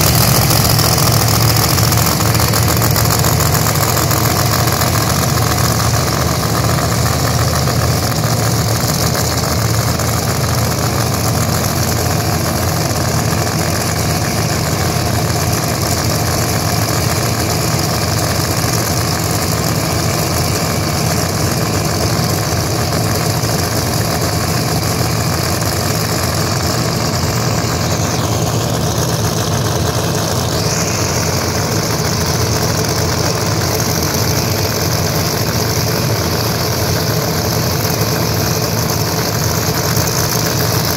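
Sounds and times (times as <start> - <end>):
race car engine idling: 0.0 - 40.9.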